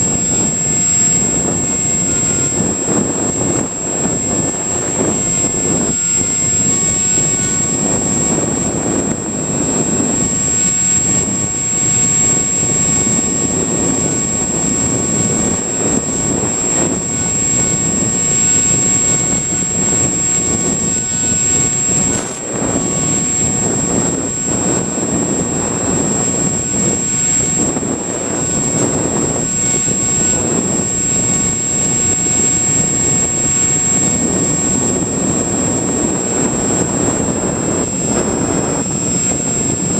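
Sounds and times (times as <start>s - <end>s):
electric motor and propeller whine: 0.0s - 39.9s
high-pitched electronic tone: 0.0s - 39.9s
rushing wind: 0.0s - 39.9s.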